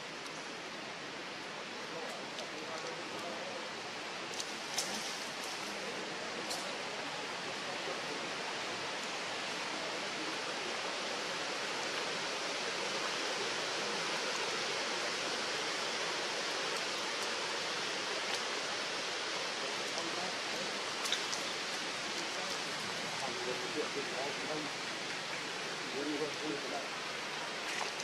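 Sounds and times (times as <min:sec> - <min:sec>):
steady rushing hiss: 0:00.0 - 0:28.0.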